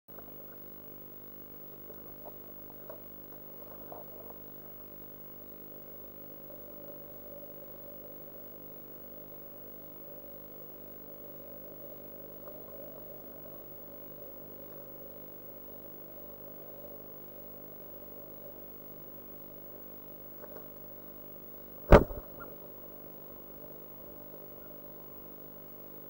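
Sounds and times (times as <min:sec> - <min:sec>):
electrical hum and hiss: 0:00.2 - 0:26.0.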